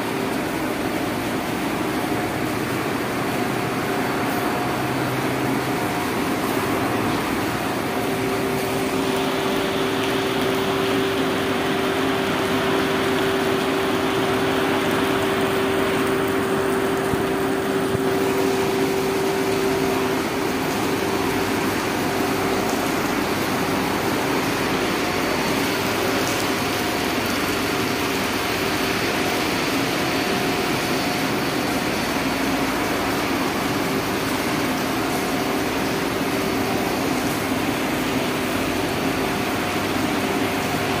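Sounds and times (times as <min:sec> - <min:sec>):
constant hum: 0:00.0 - 0:41.0
ventilation fan airflow rush: 0:00.0 - 0:41.0.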